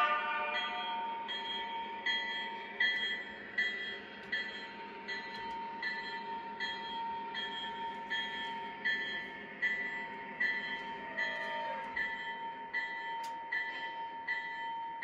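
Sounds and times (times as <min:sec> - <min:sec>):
bell-like tone ringing: 0:00.0 - 0:15.0
model train running: 0:00.0 - 0:15.0.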